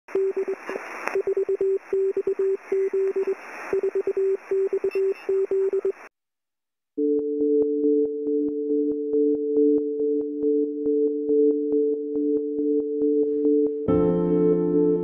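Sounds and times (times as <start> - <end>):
morse code beeps: 0.1 - 6.1, 7.0 - 13.8.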